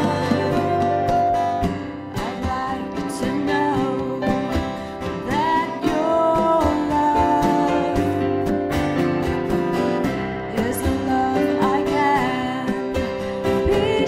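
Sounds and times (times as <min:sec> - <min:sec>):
woman singing: 0:00.0 - 0:08.6, 0:10.2 - 0:14.0
congas: 0:00.0 - 0:14.0
keyboard: 0:00.0 - 0:14.0
strummed acoustic guitar: 0:00.0 - 0:14.0.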